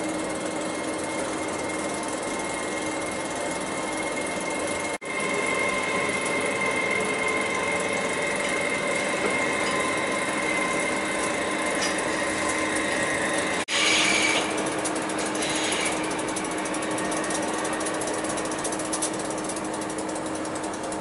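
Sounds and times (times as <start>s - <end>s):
locomotive equipment humming: 0.9s - 20.8s.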